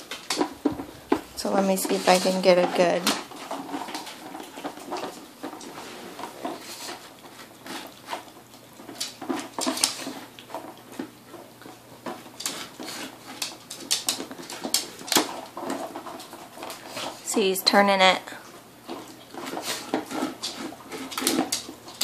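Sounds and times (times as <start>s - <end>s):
dog licking and chewing: 0.1s - 17.3s, 18.4s - 22.0s.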